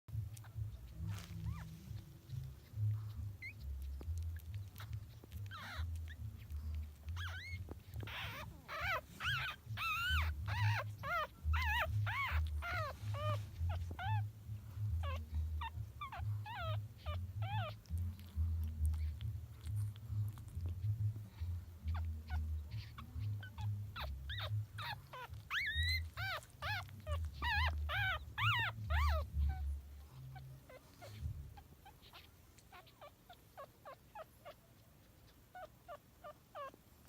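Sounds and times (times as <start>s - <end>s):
puppies whimpering: 0.1s - 36.8s.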